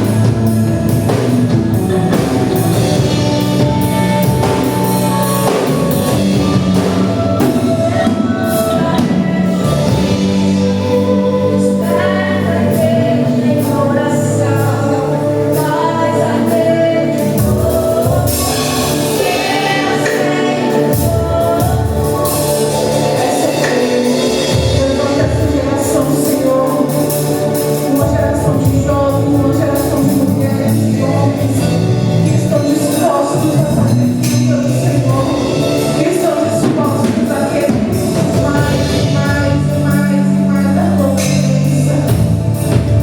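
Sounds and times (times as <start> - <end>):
gospel band with drums: 0.0 - 43.0
people singing: 0.0 - 43.0.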